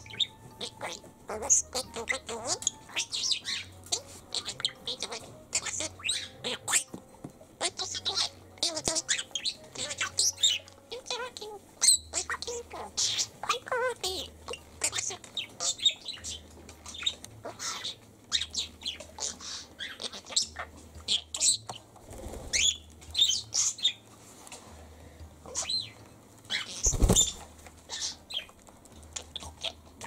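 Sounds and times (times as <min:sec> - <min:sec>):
birds chirping: 0:00.0 - 0:24.1, 0:25.4 - 0:30.0.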